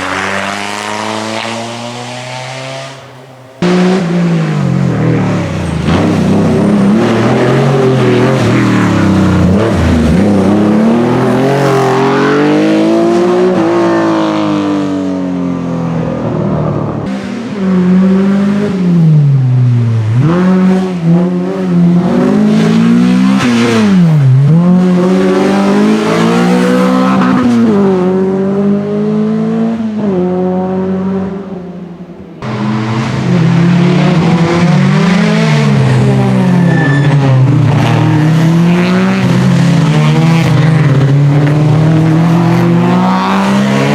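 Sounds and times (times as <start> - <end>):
rally car engine at full throttle: 0.0 - 43.9.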